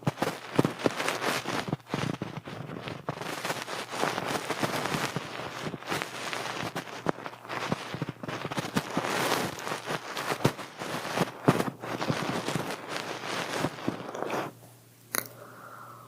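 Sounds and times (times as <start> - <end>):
rain pattering: 0.0 - 14.2.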